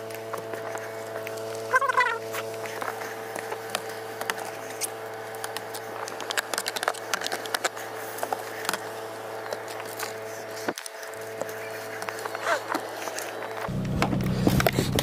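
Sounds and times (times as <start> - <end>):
brush scraping snow off car: 0.0 - 15.0
steady low hum: 0.0 - 15.0.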